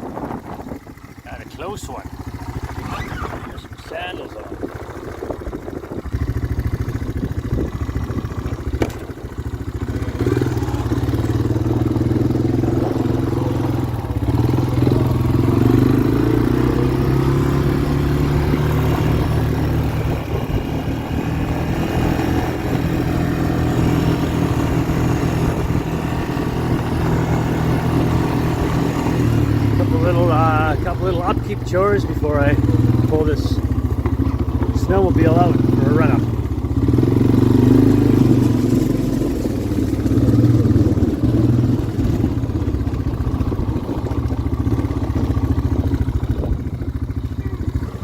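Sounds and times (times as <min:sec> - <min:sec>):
snowmobile engine running: 0:00.0 - 0:48.0.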